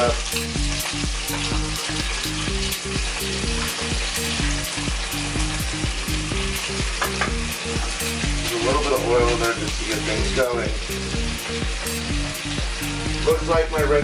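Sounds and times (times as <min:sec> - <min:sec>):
vegetables sizzling in oil: 0:00.0 - 0:13.5
background music: 0:00.0 - 0:14.0.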